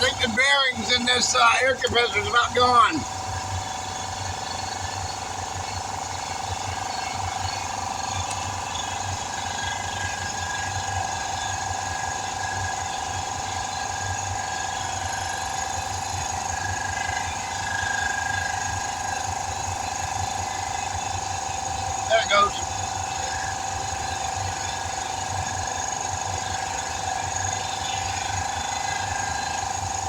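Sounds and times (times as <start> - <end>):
air compressor whining and rattling: 0.0 - 30.0.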